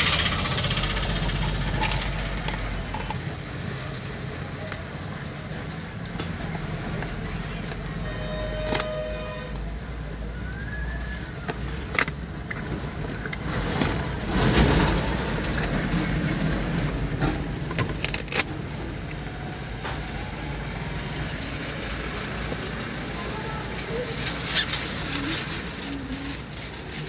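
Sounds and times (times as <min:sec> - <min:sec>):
low car hum: 0:00.0 - 0:27.0
cardboard and plastic being handled: 0:01.2 - 0:27.0.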